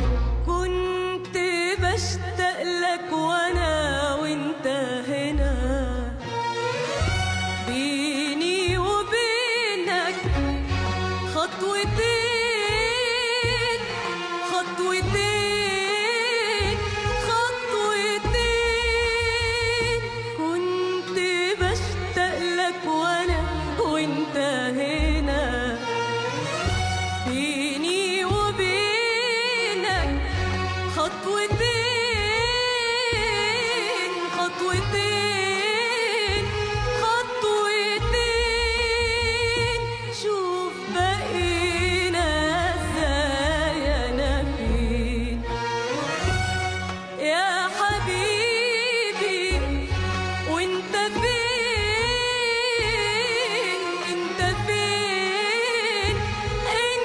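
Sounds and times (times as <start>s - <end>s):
instrumental backing: 5.9s - 57.0s
person singing ornamented melody: 7.6s - 26.6s, 27.2s - 46.3s, 47.1s - 57.0s.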